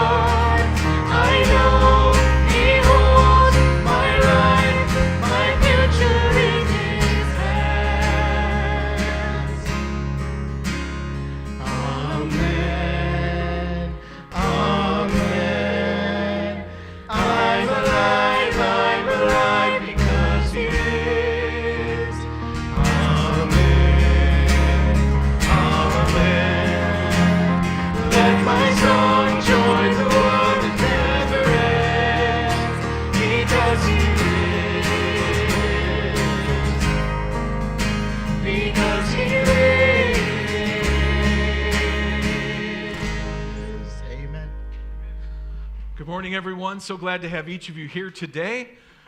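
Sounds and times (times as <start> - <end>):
voices singing: 0.0 - 9.9, 11.6 - 37.4, 38.2 - 44.4
band with guitar and bass: 0.0 - 46.5.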